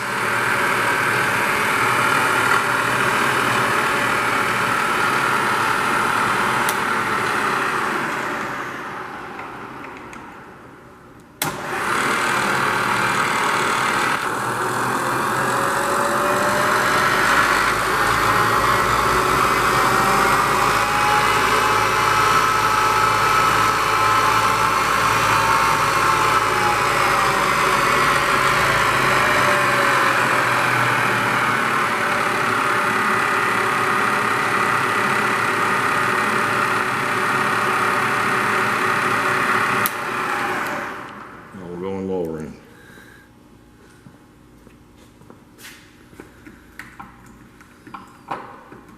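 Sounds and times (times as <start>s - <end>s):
milling machine humming and whining: 0.0s - 10.6s, 11.4s - 41.6s.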